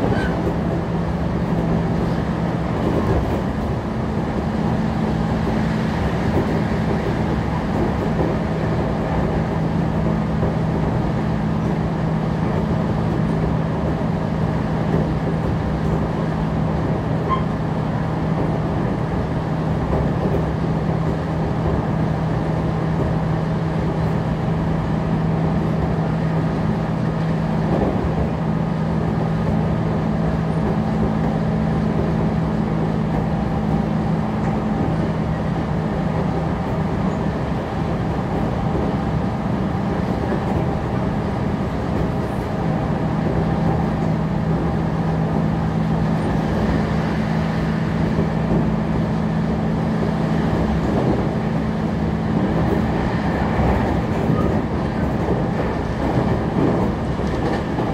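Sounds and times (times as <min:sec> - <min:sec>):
train motor hum: 0:00.0 - 0:57.9
train wheels rumbling on rails: 0:00.0 - 0:57.9.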